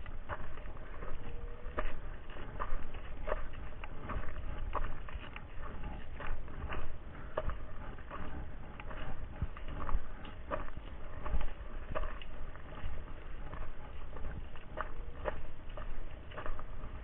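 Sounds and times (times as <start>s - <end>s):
footsteps on dirt trail: 0.0s - 17.0s
low rumble: 0.0s - 17.0s.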